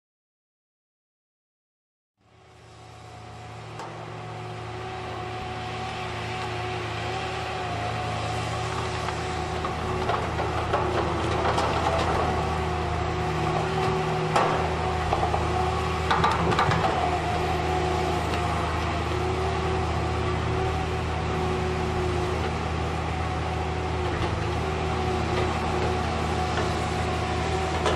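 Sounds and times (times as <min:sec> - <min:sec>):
diesel engine drone: 0:02.2 - 0:27.9.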